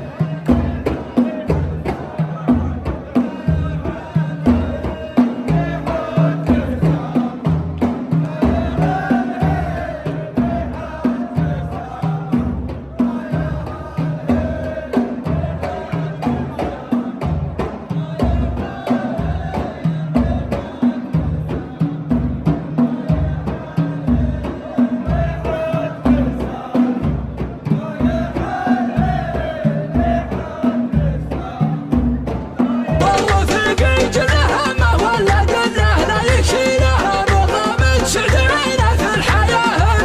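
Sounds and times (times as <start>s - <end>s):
drum beat: 0.0s - 40.0s.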